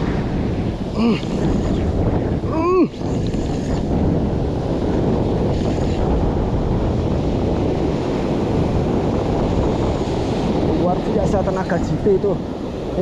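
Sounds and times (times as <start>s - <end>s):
surf washing up beach: 0.0s - 13.0s
wind on microphone: 0.0s - 13.0s.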